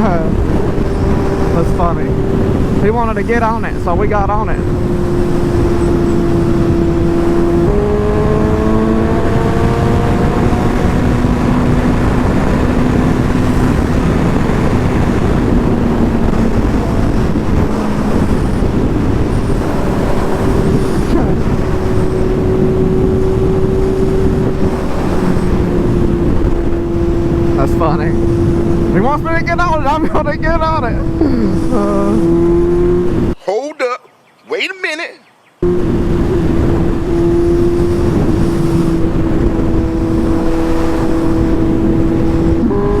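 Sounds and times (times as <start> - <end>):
motorcycle engine: 0.0 - 33.4, 35.6 - 43.0
wind rush: 0.0 - 33.4, 35.6 - 43.0.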